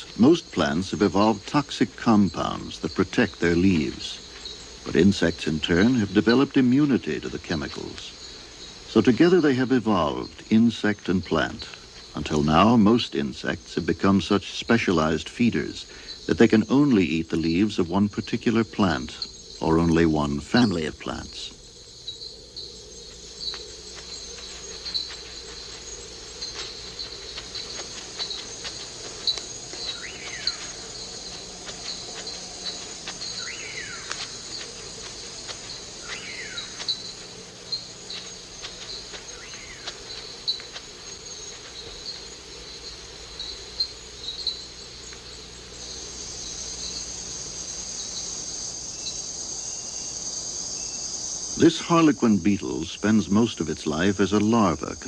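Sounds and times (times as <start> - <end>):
insects trilling and chirping: 0.0 - 55.0.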